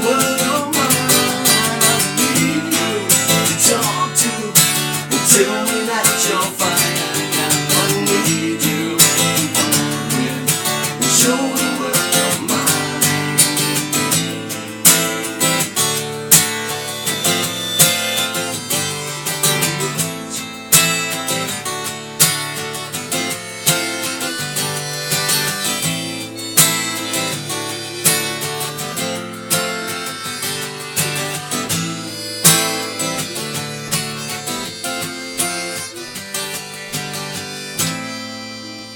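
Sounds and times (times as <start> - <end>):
wavering melody line: 0.0 - 20.6, 22.8 - 38.9
acoustic guitar strumming chords: 0.0 - 38.9.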